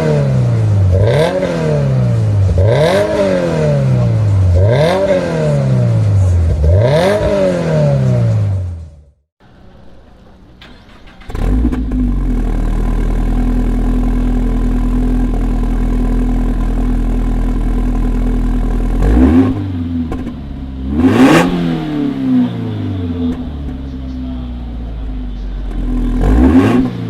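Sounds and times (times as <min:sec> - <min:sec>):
car engine revving: 0:00.0 - 0:09.2, 0:10.6 - 0:27.0
car engine starting and idling: 0:00.0 - 0:27.0.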